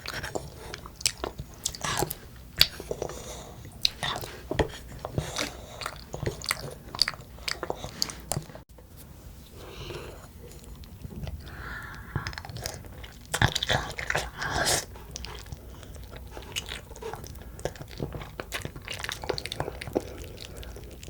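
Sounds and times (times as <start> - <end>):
wet chewing with mouth clicks: 0.0 - 8.6, 9.8 - 21.0.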